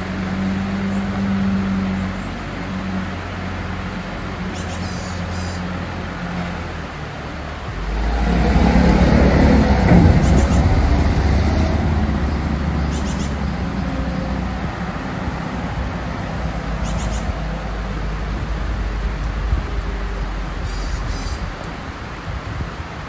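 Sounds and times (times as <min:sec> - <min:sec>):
diesel truck driving past: 0:00.0 - 0:22.1.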